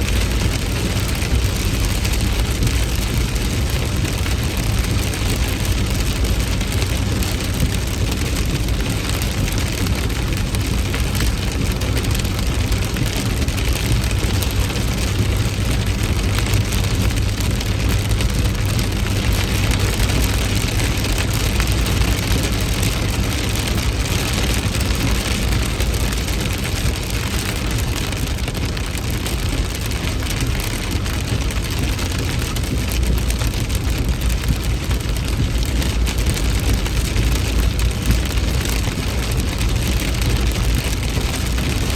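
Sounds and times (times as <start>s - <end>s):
heavy rain falling: 0.0s - 41.9s
low rumble: 0.0s - 41.9s.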